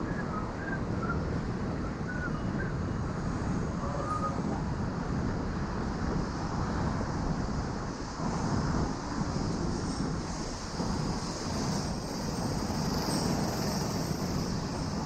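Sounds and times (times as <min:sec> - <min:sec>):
street traffic: 0:00.0 - 0:15.0
wind rushing over microphone: 0:00.0 - 0:15.0.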